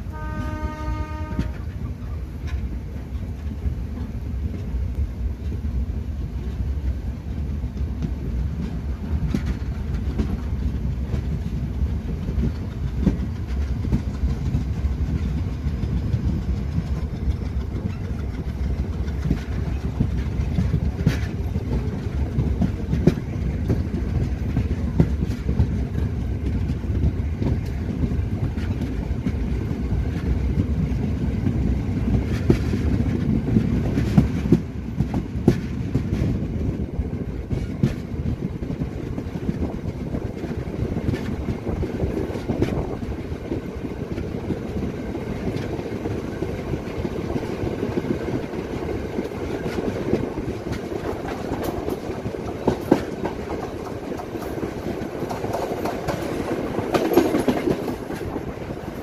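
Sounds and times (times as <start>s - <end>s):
train rumbling on track: 0.0s - 59.0s
wheels clacking on rails: 0.0s - 59.0s.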